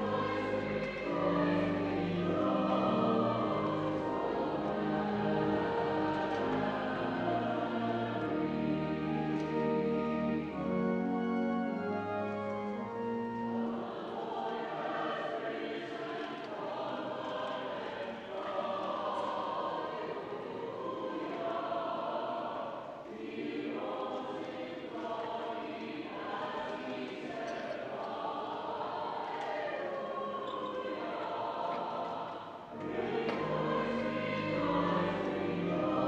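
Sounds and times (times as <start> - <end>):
choir singing: 0.0 - 36.0.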